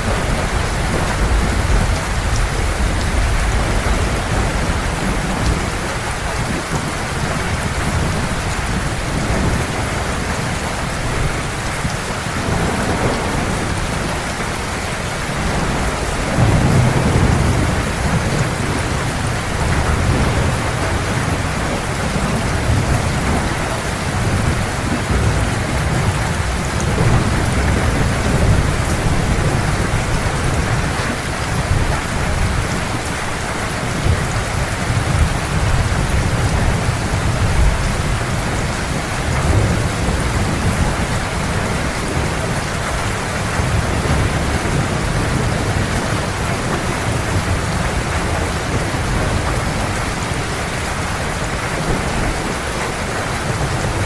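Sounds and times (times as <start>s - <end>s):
heavy rain falling: 0.0s - 54.0s
low rolling thunder: 0.0s - 54.0s.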